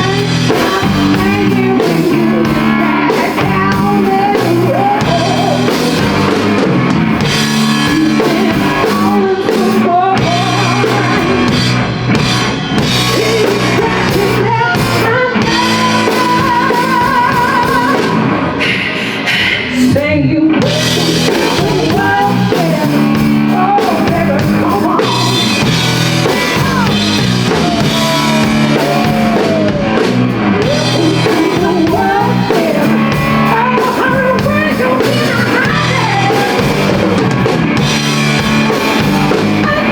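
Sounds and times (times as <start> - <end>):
person singing: 0.0 - 11.7, 12.8 - 39.9
blues-rock band playing: 0.0 - 39.9
drum kit: 0.0 - 39.9
electric guitar: 0.0 - 39.9.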